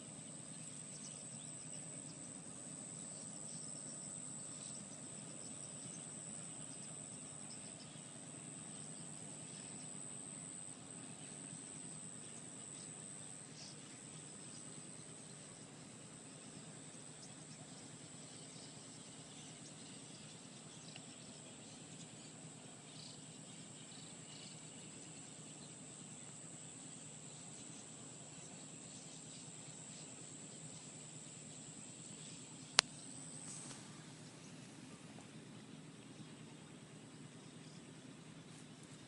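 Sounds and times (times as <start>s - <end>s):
insects chirping: 0.0s - 39.0s.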